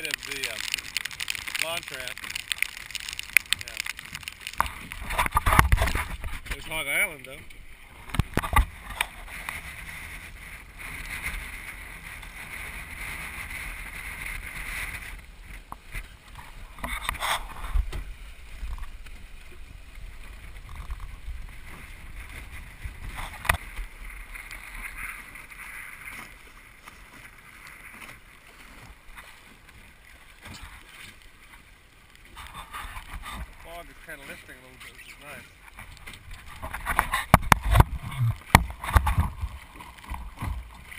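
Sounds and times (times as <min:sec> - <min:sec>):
water rushing along boat hull: 0:00.0 - 0:40.9.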